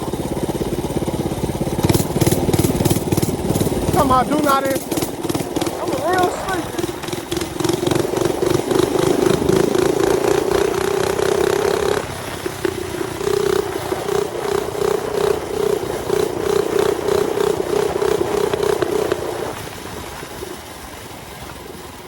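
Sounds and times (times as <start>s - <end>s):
small engine pulsing drone: 0.0s - 22.0s
wind and road noise: 0.0s - 22.0s.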